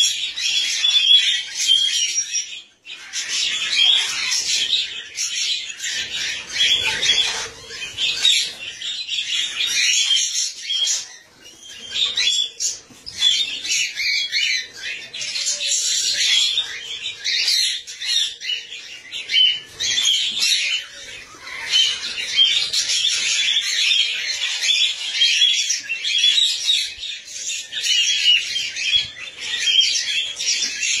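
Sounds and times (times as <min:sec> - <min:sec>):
birds chirping and squawking: 0:00.0 - 0:31.0.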